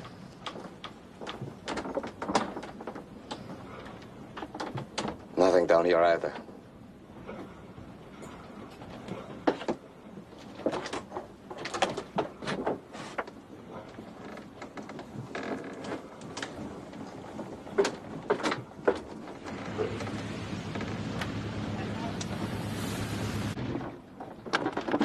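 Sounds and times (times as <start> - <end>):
knocks and thumps on wooden boat: 0.0 - 5.5, 8.8 - 22.5, 23.6 - 25.0.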